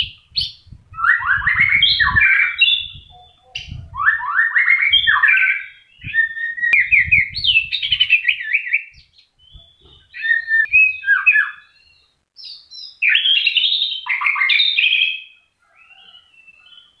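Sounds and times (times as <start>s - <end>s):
bird singing whistled phrases: 0.0s - 17.0s.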